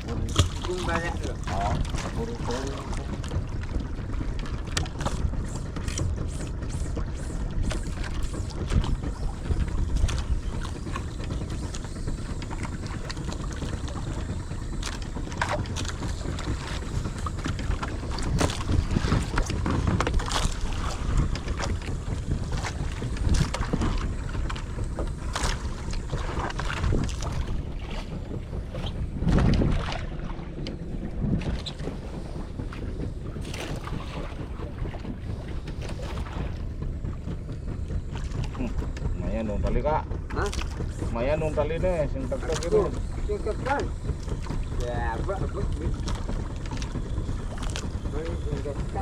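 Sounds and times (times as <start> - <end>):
low rumble of water and hull: 0.0 - 49.0
wind buffeting microphone: 0.0 - 49.0.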